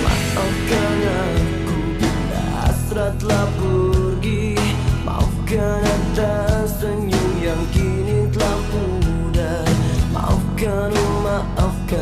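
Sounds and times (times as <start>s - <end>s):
band music with drum beat: 0.0s - 12.0s.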